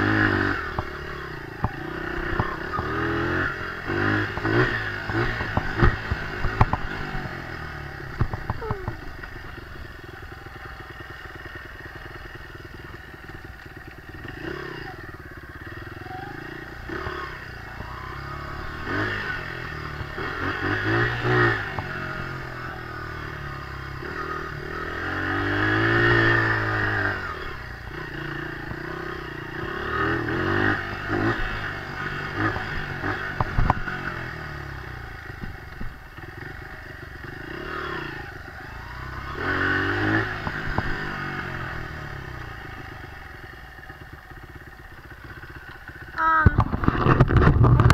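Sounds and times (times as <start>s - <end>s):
dirt bike engine revving: 0.0s - 35.5s, 36.1s - 43.3s.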